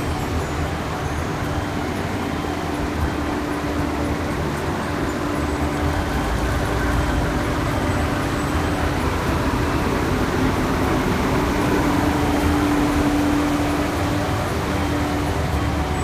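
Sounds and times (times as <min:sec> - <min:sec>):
diesel railcar drone: 0:00.0 - 0:16.0.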